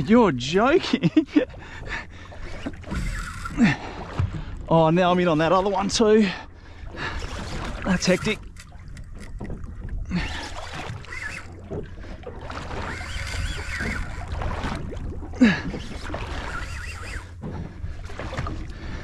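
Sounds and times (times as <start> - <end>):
water rumbling against boat: 0.0 - 19.0
wind: 0.0 - 19.0.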